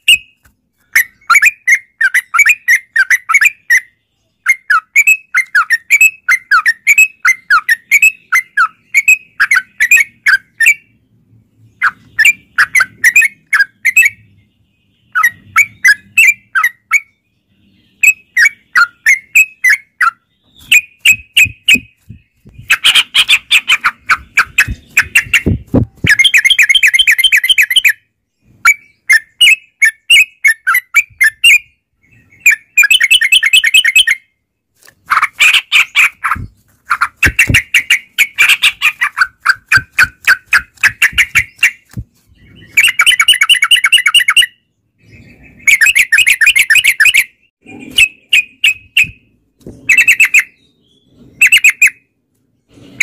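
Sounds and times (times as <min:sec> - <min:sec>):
bulbuls singing rapid chattering notes: 0:00.0 - 0:52.1.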